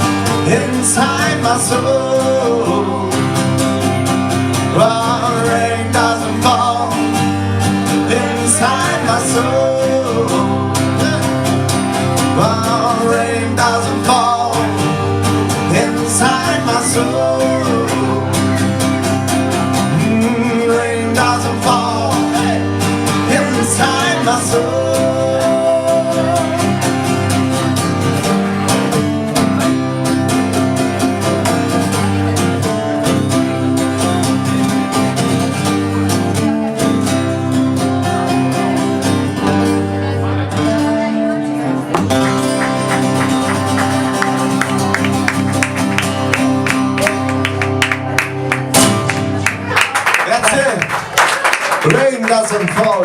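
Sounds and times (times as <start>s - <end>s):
instrumental band music: 0.0s - 51.6s.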